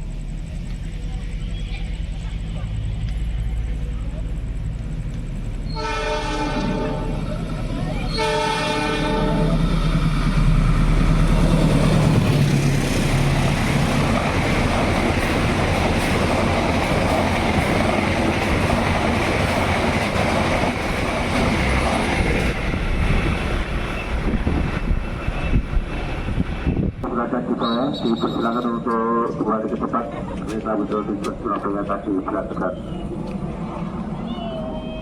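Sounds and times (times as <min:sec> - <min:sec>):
diesel locomotive drone: 0:00.0 - 0:35.0
train wheels rumbling on rails: 0:00.0 - 0:35.0.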